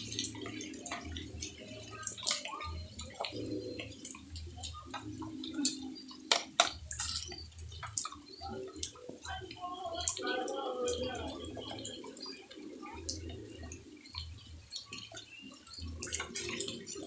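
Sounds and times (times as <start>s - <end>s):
water dripping and splashing: 0.0s - 17.0s.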